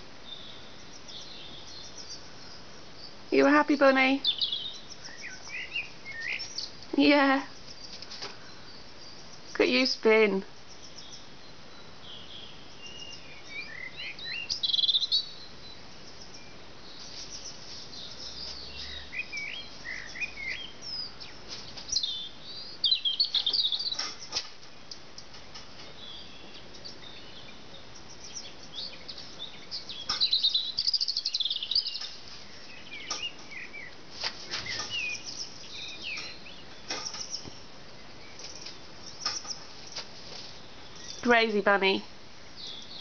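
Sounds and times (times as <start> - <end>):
birds chirping and twittering: 0.0 - 43.0
faint outdoor hiss: 0.0 - 43.0.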